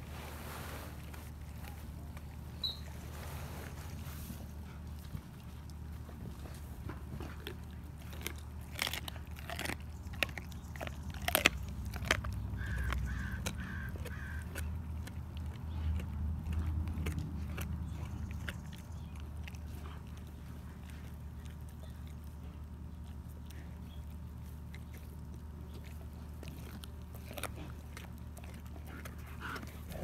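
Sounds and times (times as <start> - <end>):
dog crunching a bone: 1.0 - 30.0.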